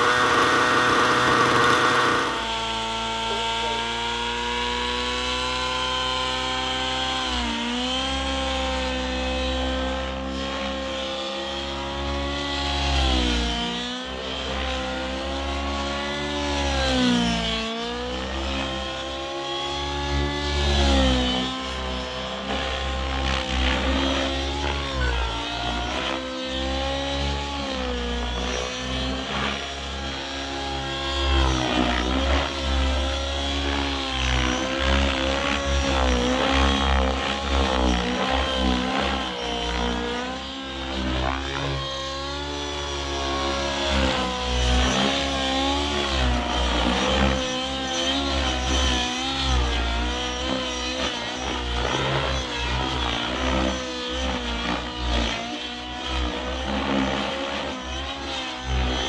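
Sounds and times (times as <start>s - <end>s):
model helicopter engine revving: 0.0s - 59.0s.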